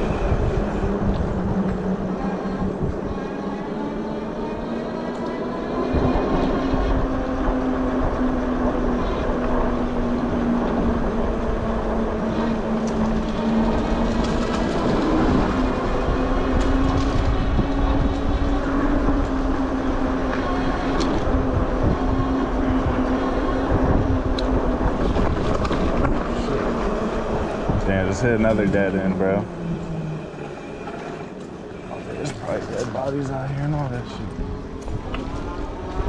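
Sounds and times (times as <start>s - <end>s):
wind on microphone: 0.0s - 33.2s, 33.8s - 36.0s
electric motor whining: 0.0s - 36.0s
tyres rumbling: 0.0s - 36.0s.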